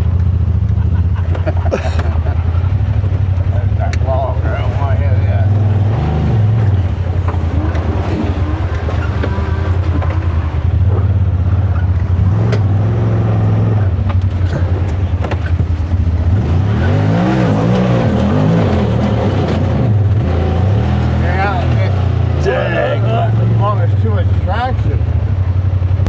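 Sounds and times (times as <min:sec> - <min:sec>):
utility vehicle engine revving: 0:00.0 - 0:26.0.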